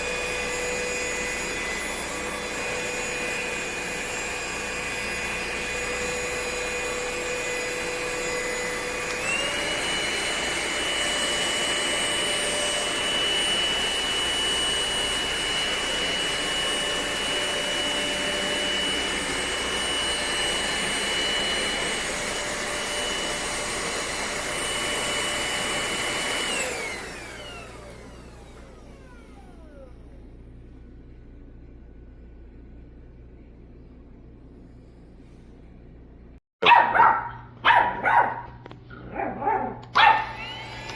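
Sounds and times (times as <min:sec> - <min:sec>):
vacuum cleaner whining: 0:00.0 - 0:33.8, 0:36.6 - 0:40.9.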